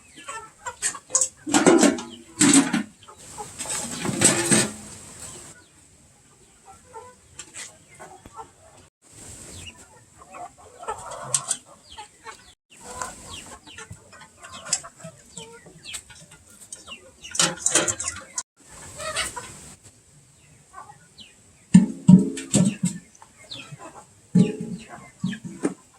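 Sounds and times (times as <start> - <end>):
chickens clucking: 0.0 - 25.9.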